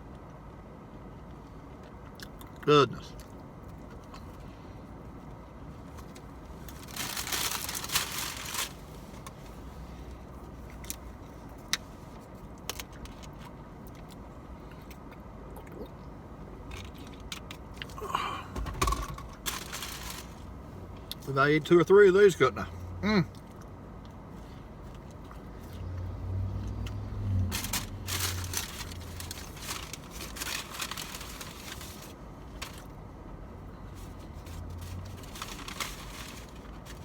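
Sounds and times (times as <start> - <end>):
low steady rumble: 0.0 - 37.0.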